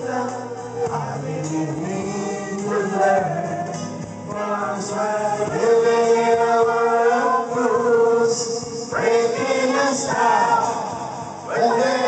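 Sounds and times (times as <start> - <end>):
group singing into microphones: 0.0 - 12.0.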